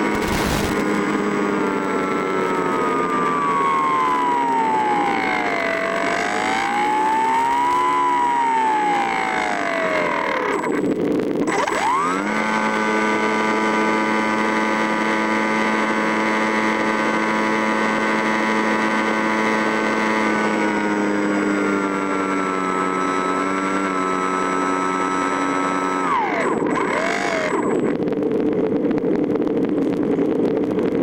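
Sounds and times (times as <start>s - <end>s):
pitched machine whine: 0.0s - 29.2s.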